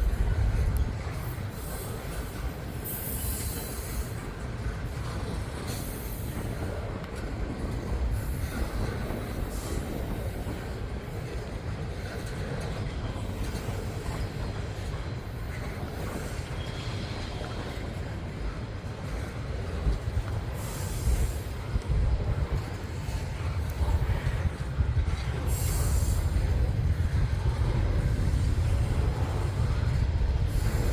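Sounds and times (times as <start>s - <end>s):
freight train wheels rumbling: 0.0s - 30.9s.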